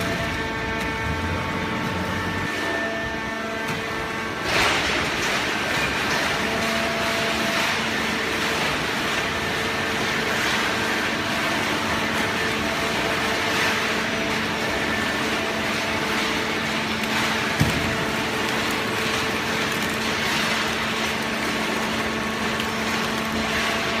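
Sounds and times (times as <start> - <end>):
hydraulic press pump hum: 0.0 - 24.0.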